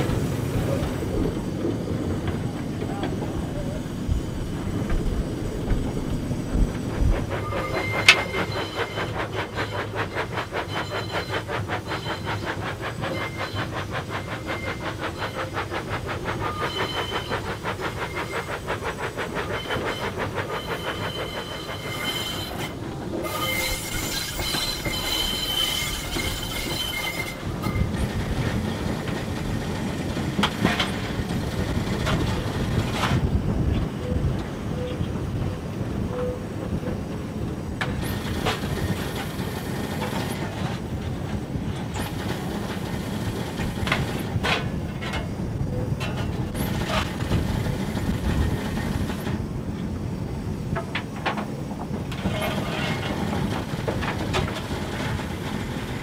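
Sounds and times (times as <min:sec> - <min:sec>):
steam hiss: 0:00.0 - 0:34.0, 0:34.6 - 0:56.0
rail clatter: 0:00.0 - 0:56.0
steam locomotive beat: 0:00.0 - 0:56.0.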